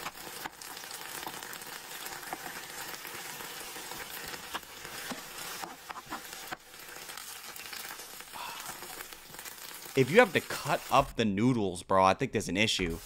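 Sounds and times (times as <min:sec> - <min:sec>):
food sizzling in oil: 0:00.0 - 0:11.2.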